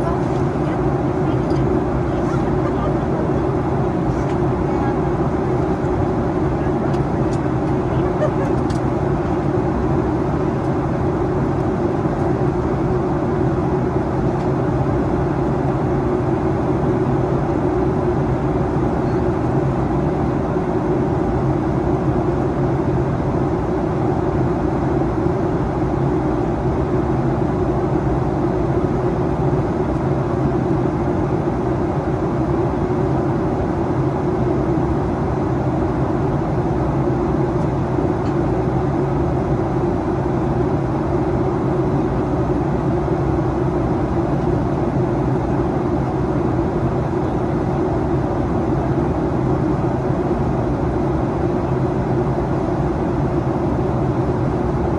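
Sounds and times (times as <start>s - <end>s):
airplane cabin airflow rush: 0.0s - 54.9s
faint steady hum: 0.0s - 54.9s
jet engines: 0.0s - 54.9s.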